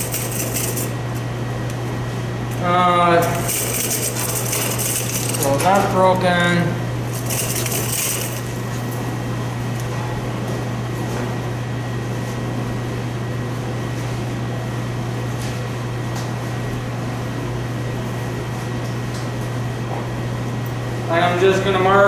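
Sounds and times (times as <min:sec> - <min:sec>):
fan droning: 0:00.0 - 0:22.0.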